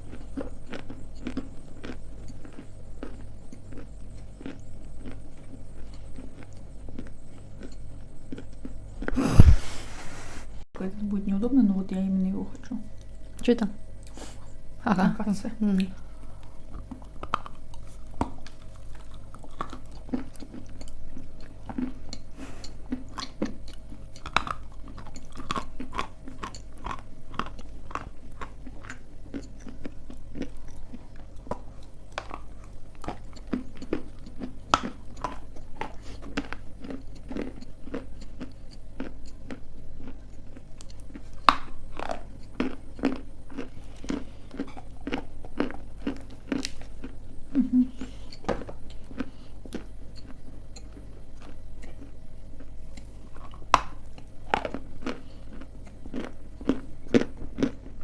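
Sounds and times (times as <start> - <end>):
clay being chewed: 0.0 - 9.6, 15.9 - 58.0.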